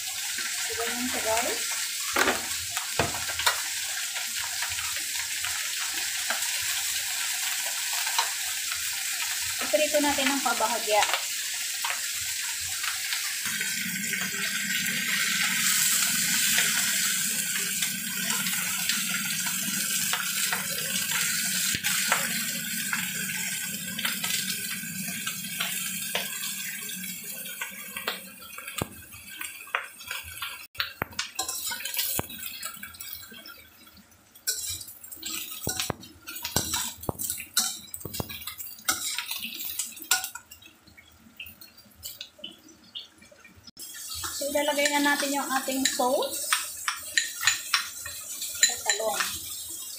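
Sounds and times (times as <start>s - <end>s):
eggplant sizzling in oil: 0.0s - 49.9s.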